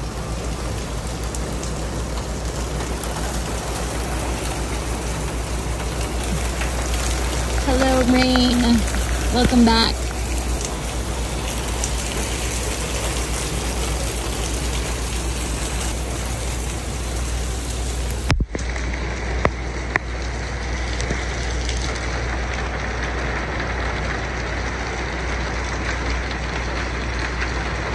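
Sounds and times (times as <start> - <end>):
heavy rain on car and pavement: 0.0 - 27.9.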